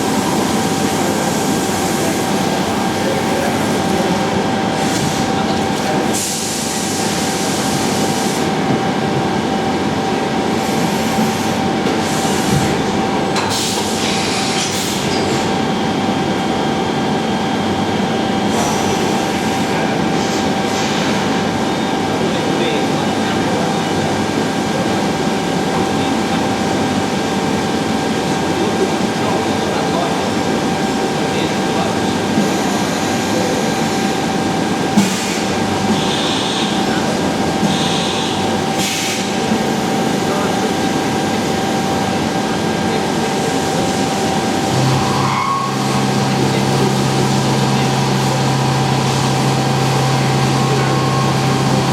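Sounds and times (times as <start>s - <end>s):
machining centre humming and whining: 0.0s - 51.9s.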